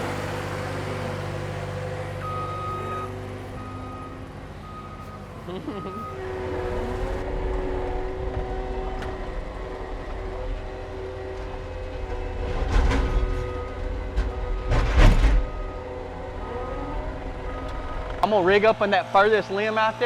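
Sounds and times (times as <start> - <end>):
heavy equipment engine humming: 0.0 - 20.0.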